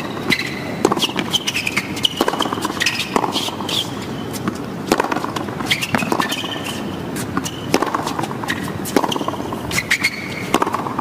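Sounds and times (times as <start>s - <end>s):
rackets striking tennis ball: 0.0s - 11.0s
tennis shoes squeaking: 0.0s - 11.0s.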